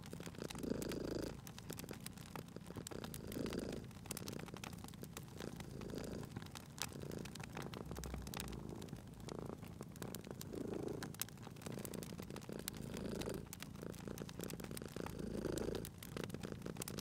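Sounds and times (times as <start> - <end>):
cat purring: 0.0 - 17.0
wood fire crackling: 0.0 - 17.0.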